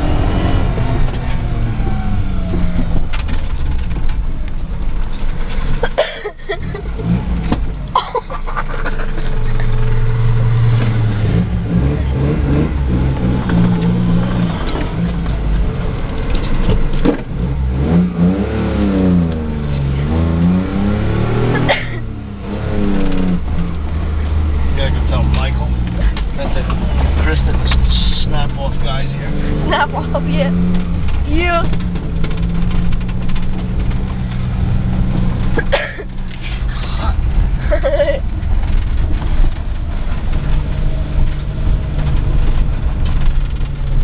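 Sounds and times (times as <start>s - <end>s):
car engine revving inside cabin: 0.0s - 5.9s, 6.6s - 44.0s.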